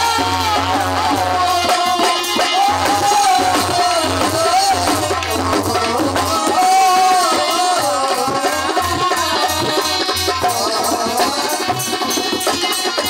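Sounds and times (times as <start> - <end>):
hand drum beat: 0.0 - 11.8.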